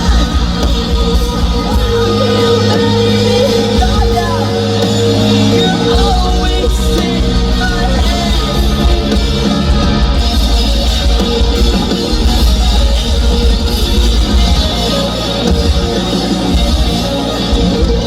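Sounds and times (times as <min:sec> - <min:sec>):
drum kit: 0:00.0 - 0:18.0
electric guitars: 0:00.0 - 0:18.0
live post-hardcore band playing: 0:00.0 - 0:18.0.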